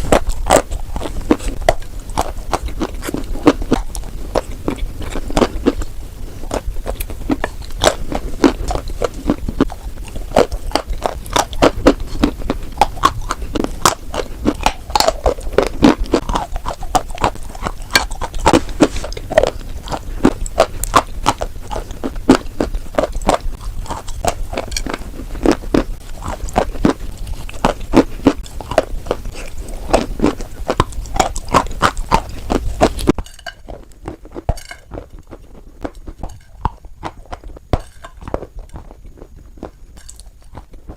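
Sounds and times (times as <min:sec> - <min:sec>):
chalk being chewed: 0:00.0 - 0:40.9
low background hum: 0:00.0 - 0:40.9.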